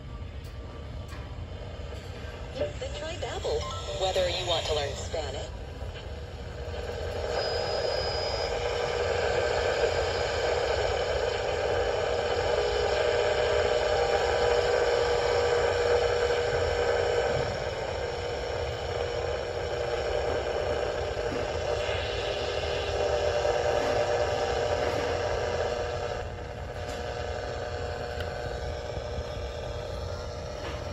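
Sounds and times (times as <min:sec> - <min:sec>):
radio static hiss: 0:02.4 - 0:30.9.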